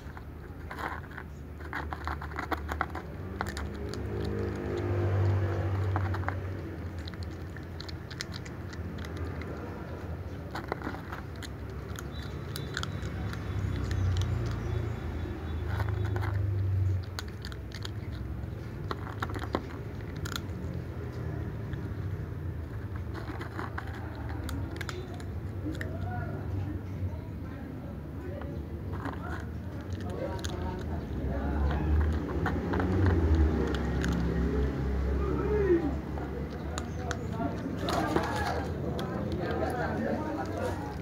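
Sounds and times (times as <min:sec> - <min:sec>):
cat crunching dry kibble: 0:00.0 - 0:41.0.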